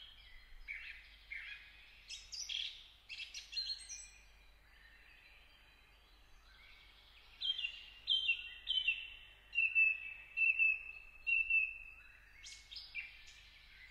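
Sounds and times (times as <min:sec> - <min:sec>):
faint background hiss: 0:00.0 - 0:13.9.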